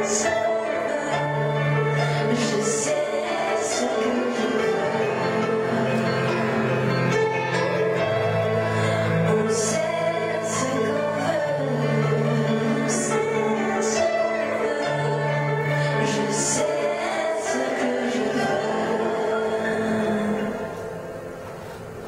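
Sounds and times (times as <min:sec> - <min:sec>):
woman and man singing duet: 0:00.0 - 0:20.9.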